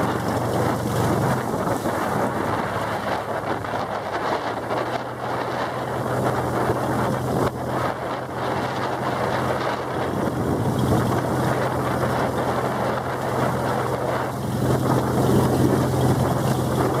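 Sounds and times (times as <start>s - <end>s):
boat motor humming: 0.0s - 17.0s
water rushing past hull: 0.0s - 17.0s
wind buffeting microphone: 0.0s - 17.0s.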